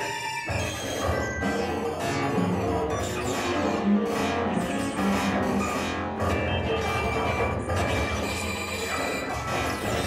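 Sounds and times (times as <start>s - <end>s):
cello: 0.0s - 10.0s
electronic keyboard: 0.0s - 10.0s.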